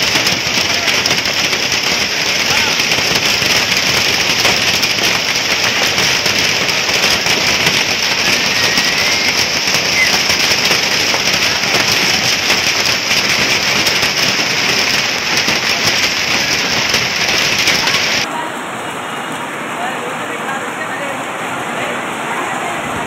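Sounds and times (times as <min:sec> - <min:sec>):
hail and heavy rain pelting: 0:00.0 - 0:23.0.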